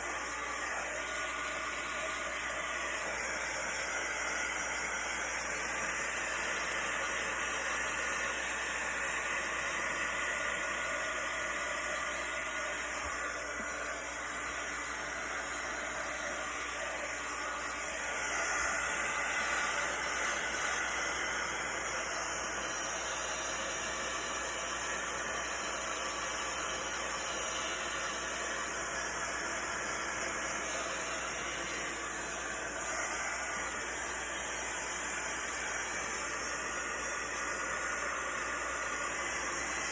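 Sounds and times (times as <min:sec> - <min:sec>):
heat gun blowing air: 0:00.0 - 0:39.9.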